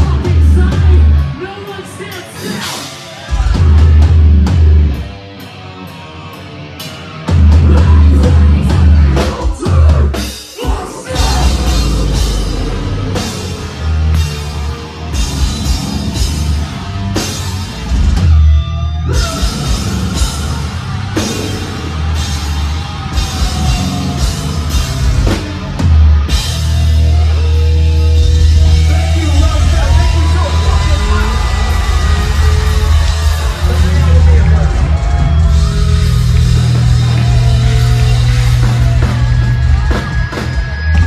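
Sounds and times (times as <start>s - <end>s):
metal band playing live: 0.0s - 41.0s.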